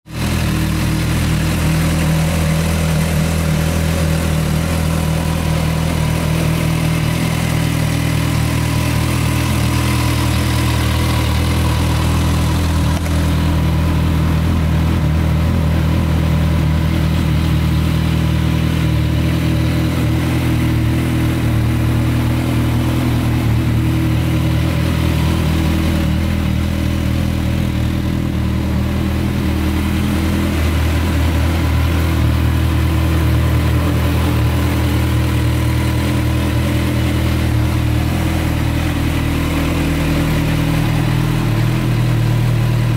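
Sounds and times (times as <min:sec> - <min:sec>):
motorcycle engine idling: 0:00.1 - 0:42.9.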